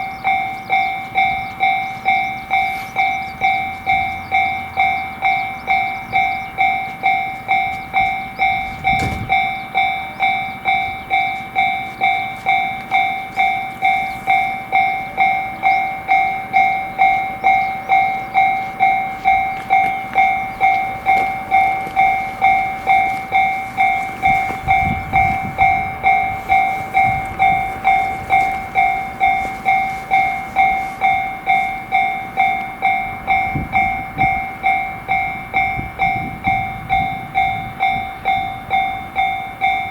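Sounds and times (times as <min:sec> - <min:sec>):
railroad crossing bell ringing: 0:00.0 - 0:39.9
low rumbles: 0:00.1 - 0:39.9.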